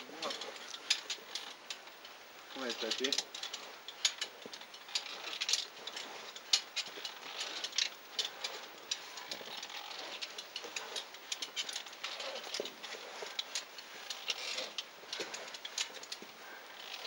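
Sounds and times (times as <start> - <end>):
metallic clicks of climbing gear: 0.0 - 17.0.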